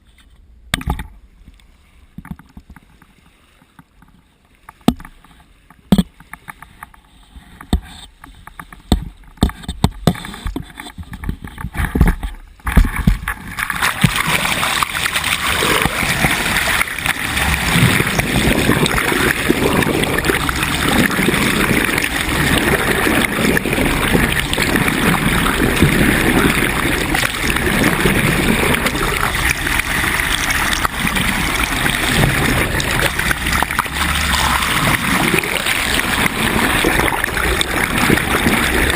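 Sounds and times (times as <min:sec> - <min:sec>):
water rushing along a hull: 0:00.0 - 0:38.9.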